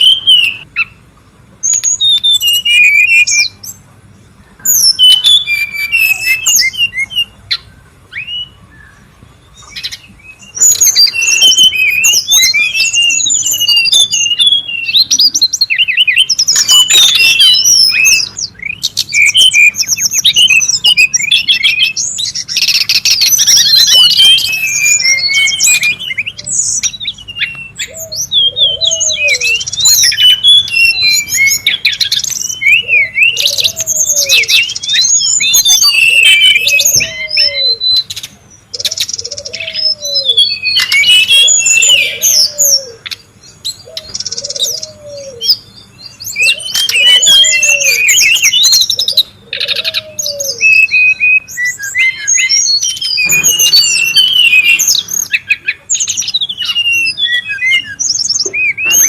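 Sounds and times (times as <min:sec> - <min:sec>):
chorus of bird chirps and trills: 0:00.0 - 0:59.0.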